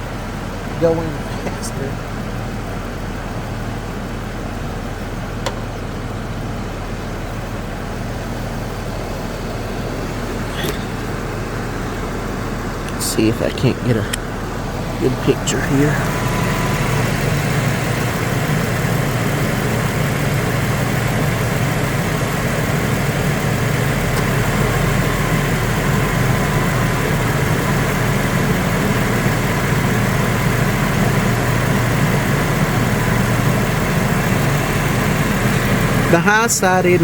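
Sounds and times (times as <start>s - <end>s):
air conditioning running: 0.0s - 37.0s
car engine idling: 0.0s - 37.0s.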